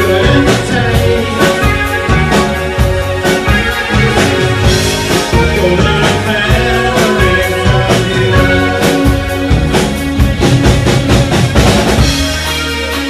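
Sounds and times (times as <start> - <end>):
drum kit hitting: 0.0 - 13.0
live rock band playing: 0.0 - 13.0.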